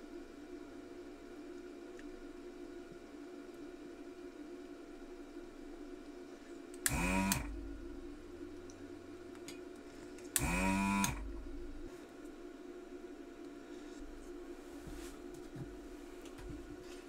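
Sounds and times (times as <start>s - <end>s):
desoldering pump whine: 0.0s - 17.0s.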